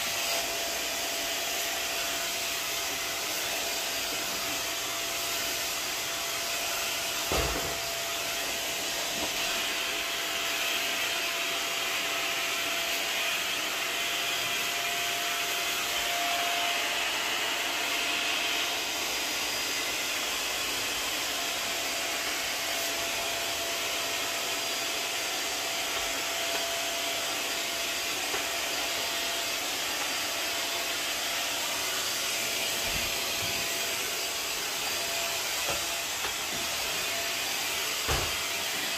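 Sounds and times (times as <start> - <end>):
steam mop motor whine: 0.0 - 38.9.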